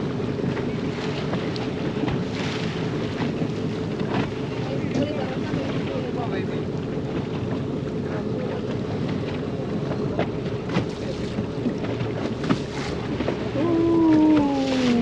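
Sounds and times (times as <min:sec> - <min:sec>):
speedboat engine drone: 0:00.0 - 0:15.0
water rushing along hull: 0:00.0 - 0:15.0.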